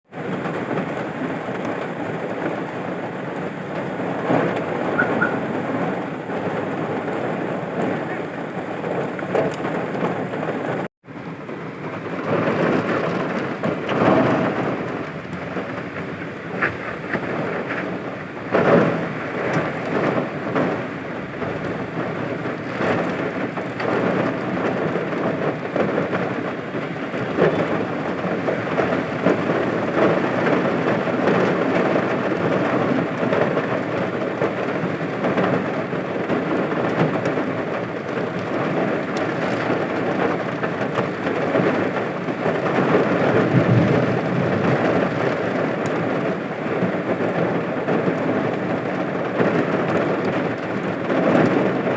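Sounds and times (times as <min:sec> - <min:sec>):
gusty wind: 0:00.1 - 0:51.9
heavy rain pouring: 0:00.1 - 0:51.9
rain spattering on surfaces: 0:00.1 - 0:51.9.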